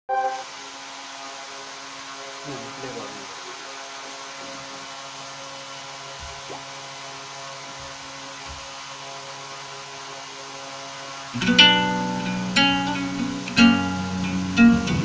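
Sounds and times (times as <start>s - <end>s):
electrical mains hum: 0.1s - 15.0s.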